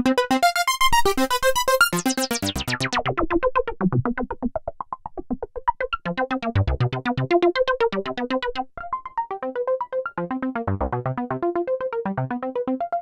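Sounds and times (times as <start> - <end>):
synthesizer fast plucky arpeggio: 0.0 - 13.0.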